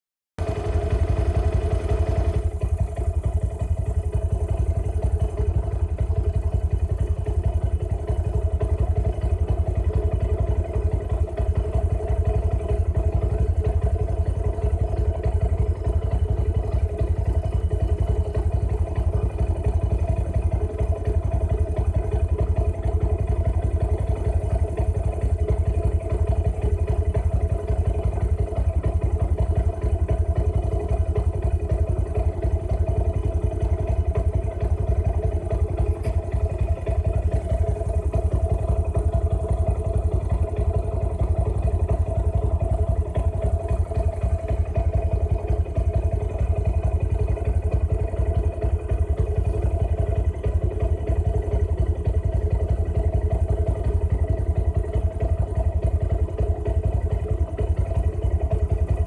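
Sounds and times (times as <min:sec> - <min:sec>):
vehicle engine rumbling: 0:00.4 - 0:50.8.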